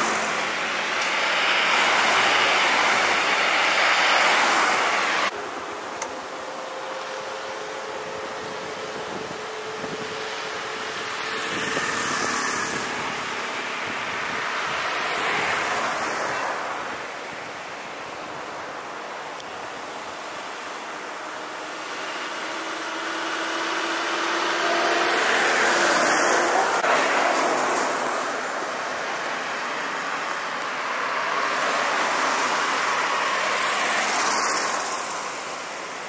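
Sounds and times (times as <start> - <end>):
cars passing by: 0.0 - 36.0.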